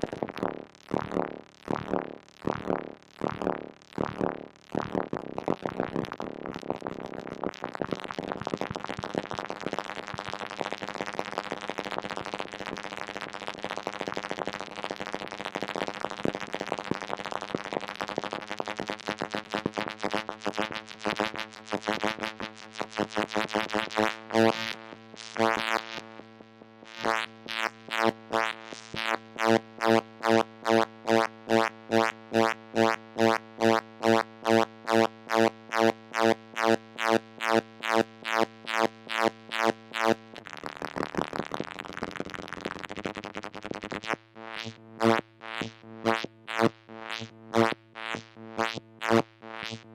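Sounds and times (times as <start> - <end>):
buzzing synthesizer tone: 0.0 - 14.3, 15.4 - 49.9.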